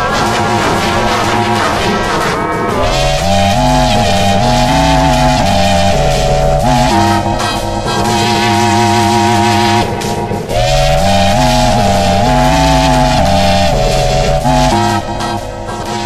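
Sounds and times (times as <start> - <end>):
distorted music with held notes: 0.0 - 16.0.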